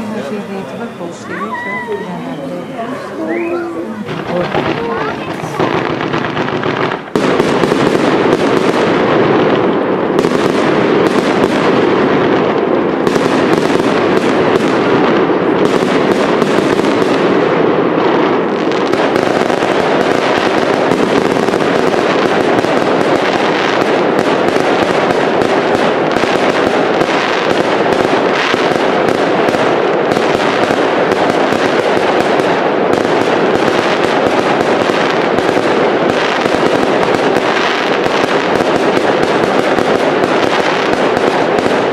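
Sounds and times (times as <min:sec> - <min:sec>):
fireworks crackling and popping: 0:00.0 - 0:41.9.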